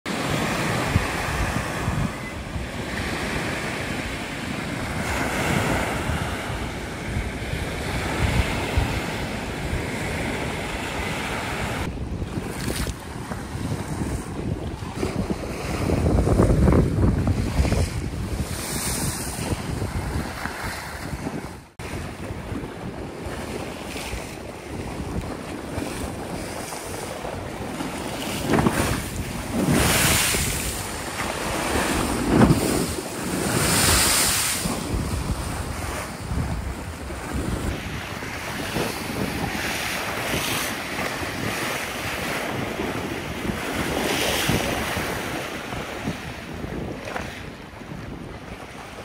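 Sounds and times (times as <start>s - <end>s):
waves splashing around kayak: 0.1s - 49.0s
wind rumbling on microphone: 0.1s - 49.0s.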